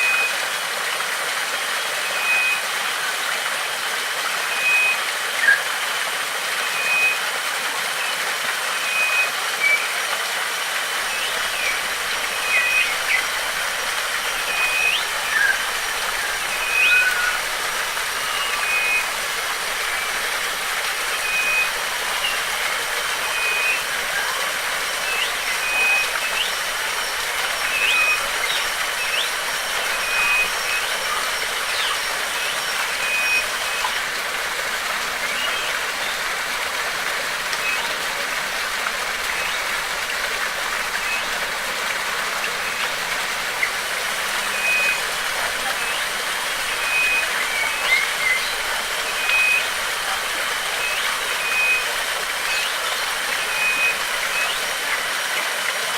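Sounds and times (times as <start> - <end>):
flowing water: 0.0 - 55.9.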